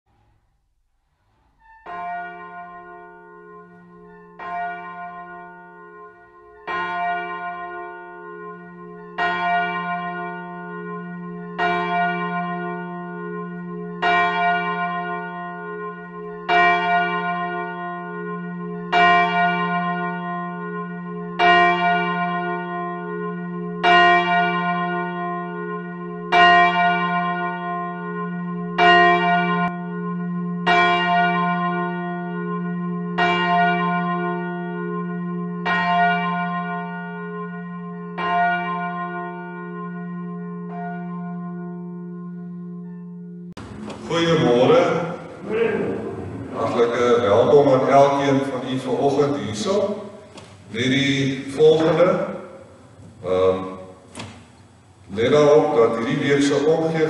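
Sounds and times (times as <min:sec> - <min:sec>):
church bell tolling: 0:01.6 - 0:57.0.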